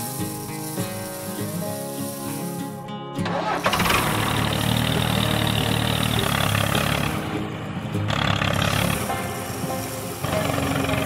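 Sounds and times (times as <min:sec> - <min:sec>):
background music: 0:00.0 - 0:11.0
tractor engine running: 0:00.0 - 0:11.0.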